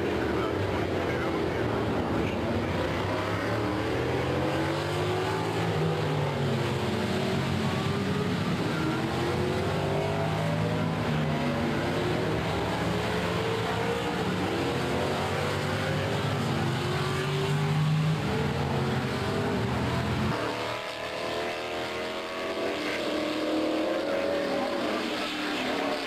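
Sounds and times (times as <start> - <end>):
racing car engines accelerating: 0.0 - 26.0.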